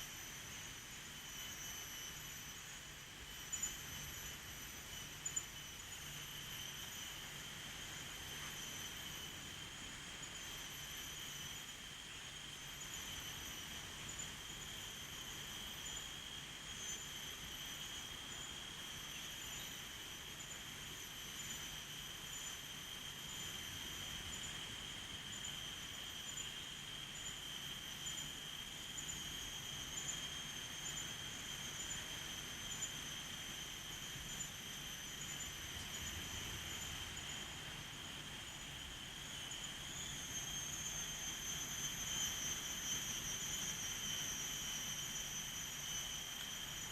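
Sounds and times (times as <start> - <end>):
faint hiss: 0.0 - 46.9
insects trilling: 0.0 - 46.9.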